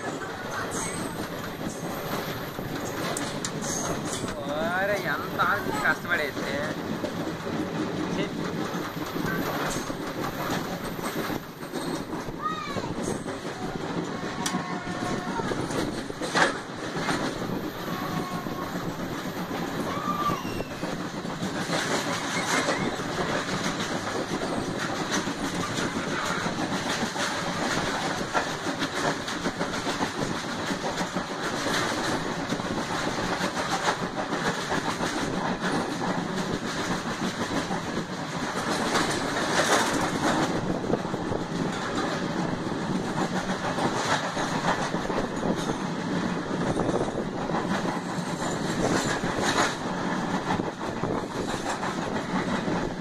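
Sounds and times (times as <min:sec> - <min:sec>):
train rumble and rushing air: 0:00.0 - 0:53.0
train wheels clacking: 0:00.0 - 0:53.0.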